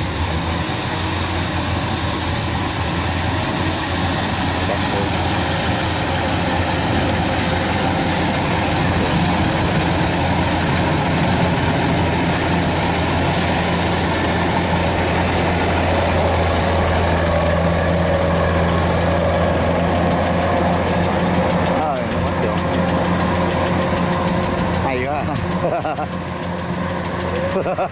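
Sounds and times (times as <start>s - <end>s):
diesel engine humming: 0.0s - 27.9s
high steady whine: 0.0s - 27.9s.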